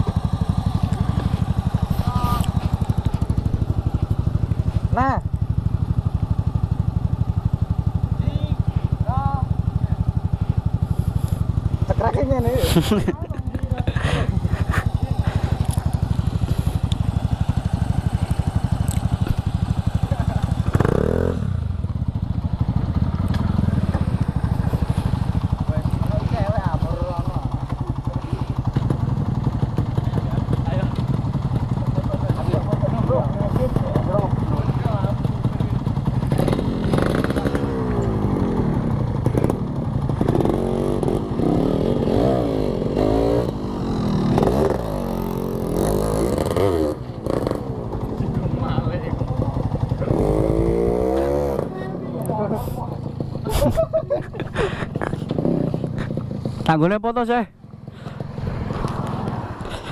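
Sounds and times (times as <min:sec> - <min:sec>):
two-stroke engine putter: 0:00.0 - 0:08.0, 0:08.7 - 0:22.1, 0:22.7 - 0:56.7.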